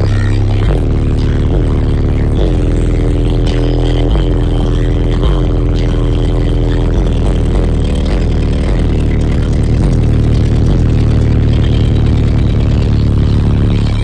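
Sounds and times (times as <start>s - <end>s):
bass-heavy music from subwoofers: 0.0s - 14.0s.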